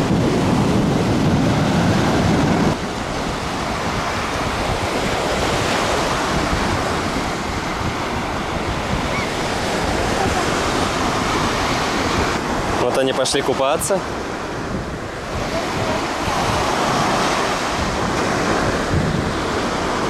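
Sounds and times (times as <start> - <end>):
waves washing on a beach: 0.0 - 20.0
wind rumble on microphone: 0.0 - 20.0.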